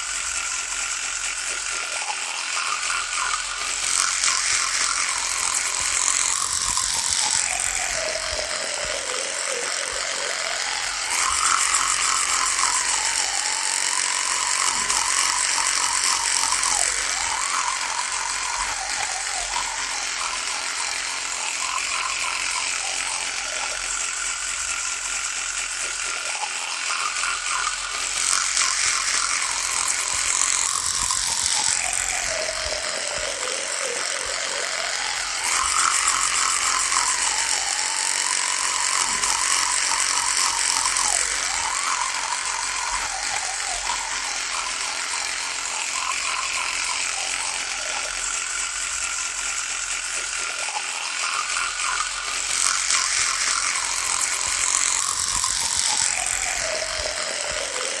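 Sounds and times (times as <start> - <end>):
electric toothbrush buzzing: 0.0 - 58.0.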